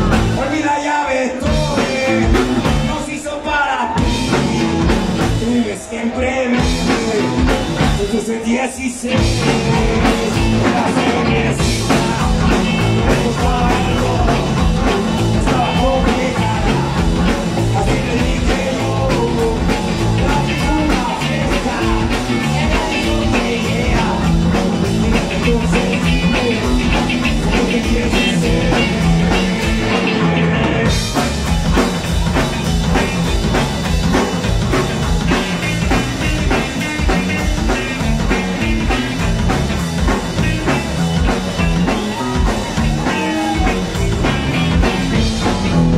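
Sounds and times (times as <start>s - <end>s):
drum kit beat: 0.0s - 0.7s, 1.4s - 5.8s, 6.5s - 8.4s, 9.0s - 45.9s
bass guitar: 0.0s - 45.9s
electric guitar: 0.0s - 45.9s.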